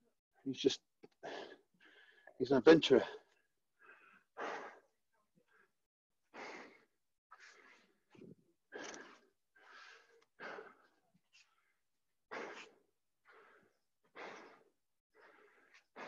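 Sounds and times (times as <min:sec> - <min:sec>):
person breathing hard and fast: 0:01.1 - 0:02.4, 0:03.2 - 0:16.0.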